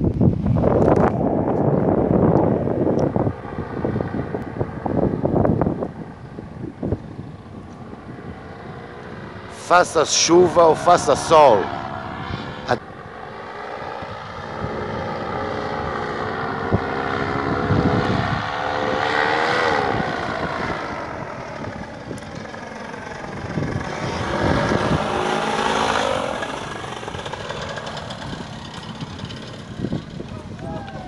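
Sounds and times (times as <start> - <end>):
paramotor engine droning overhead: 0.0 - 31.0.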